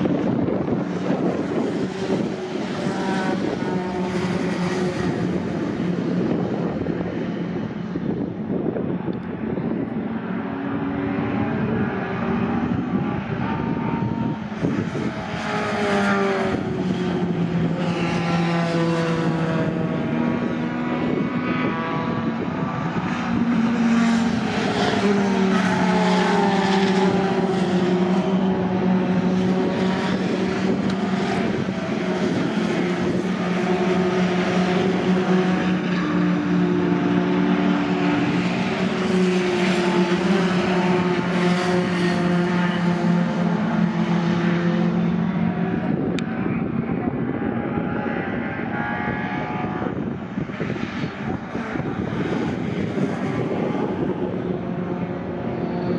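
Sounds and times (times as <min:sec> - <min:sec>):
racing truck engines: 0:00.0 - 0:55.9.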